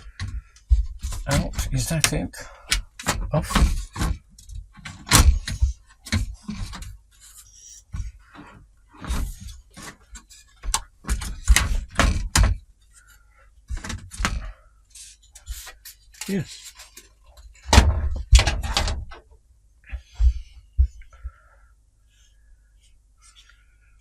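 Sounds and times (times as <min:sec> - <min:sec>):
hard plastic parts knocking and scraping: 0:00.0 - 0:13.1, 0:13.7 - 0:21.4.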